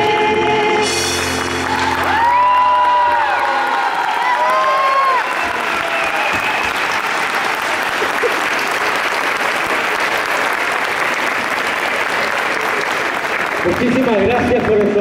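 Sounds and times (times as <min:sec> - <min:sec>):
crowd applauding: 0:01.1 - 0:15.0.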